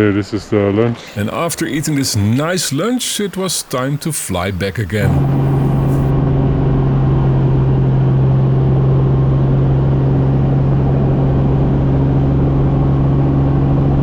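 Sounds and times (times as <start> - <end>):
helicopter drone: 1.2 - 12.8.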